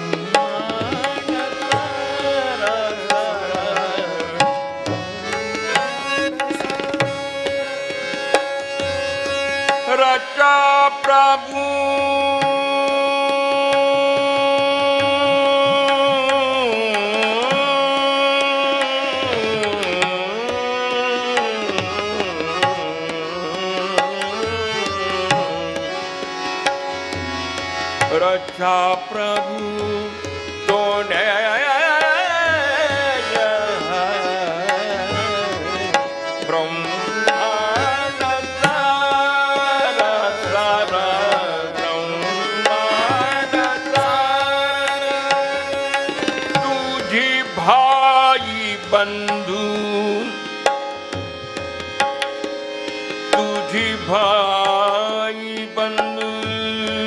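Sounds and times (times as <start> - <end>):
harmonium: 0.0 - 57.0
man singing: 0.0 - 57.0
tabla: 0.0 - 57.0
tanpura drone: 0.0 - 57.0.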